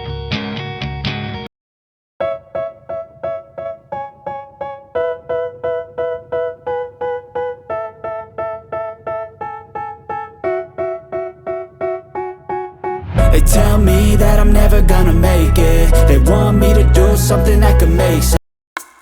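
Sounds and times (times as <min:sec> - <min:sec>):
keyboard playing repeated notes: 0:02.2 - 0:18.4.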